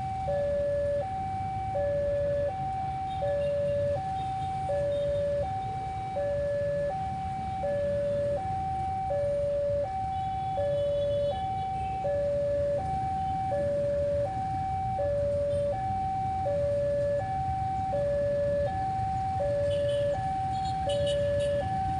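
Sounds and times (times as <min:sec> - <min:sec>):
two-tone crossing alarm: 0:00.0 - 0:21.9.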